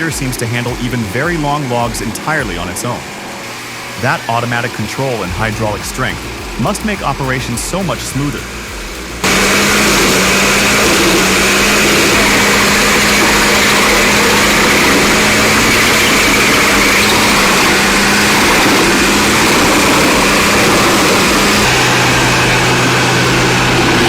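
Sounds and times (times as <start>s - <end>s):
wood chipper running: 0.0s - 24.0s.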